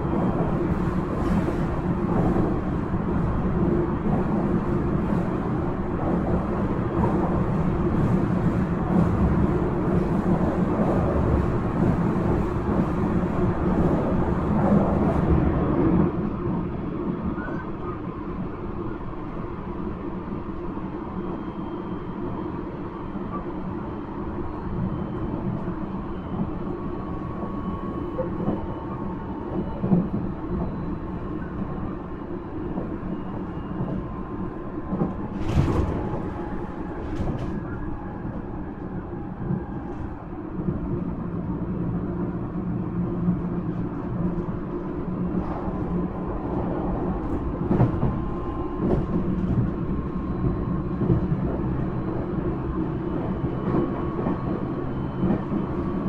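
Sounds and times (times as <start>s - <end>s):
electric train rumble: 0.0s - 56.0s.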